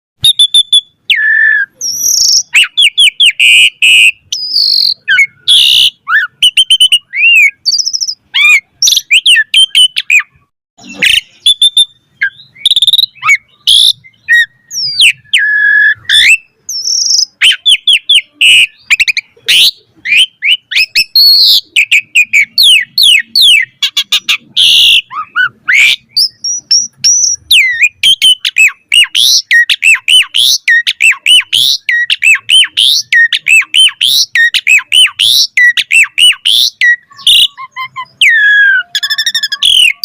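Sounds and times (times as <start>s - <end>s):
starling singing: 0.2s - 40.0s.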